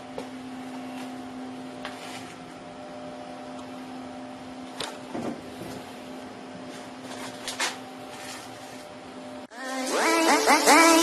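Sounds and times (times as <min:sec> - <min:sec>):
mechanical motor hum: 0:00.0 - 0:11.0.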